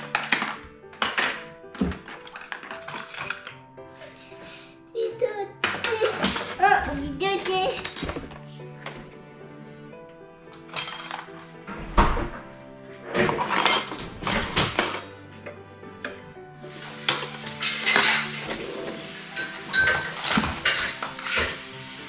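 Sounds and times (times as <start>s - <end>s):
dishes and cutlery clinking: 0.0s - 4.1s, 5.6s - 9.2s, 10.4s - 12.4s, 13.0s - 22.0s
background music: 0.0s - 22.0s.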